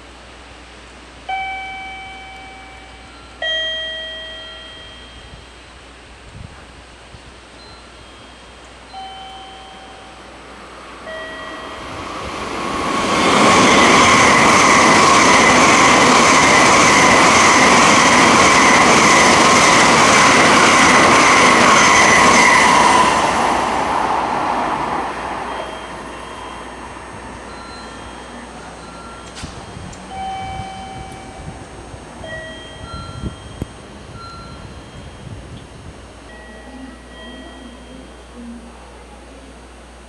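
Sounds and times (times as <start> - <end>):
high-speed train rushing past: 0.0 - 40.0
steady high whine: 0.0 - 40.0.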